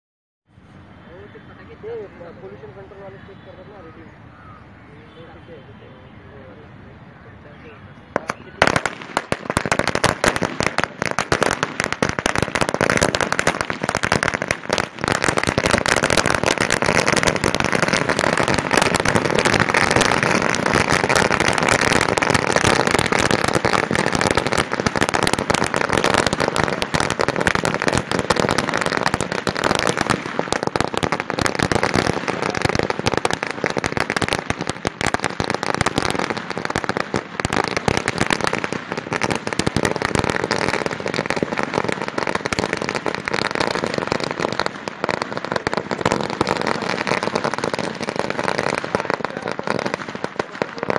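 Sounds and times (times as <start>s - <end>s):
firecrackers crackling: 0.7s - 6.6s, 7.3s - 50.9s.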